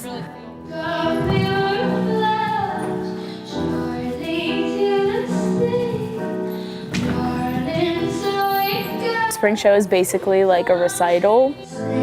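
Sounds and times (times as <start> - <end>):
instrumental backing: 0.0 - 12.0.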